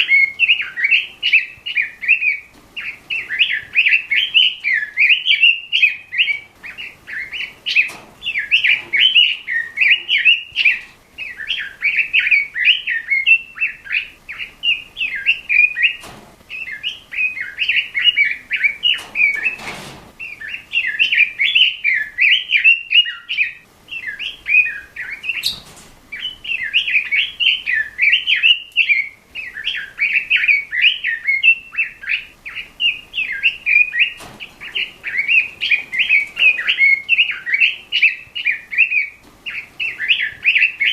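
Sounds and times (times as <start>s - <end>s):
bird warbling song: 0.0s - 40.9s.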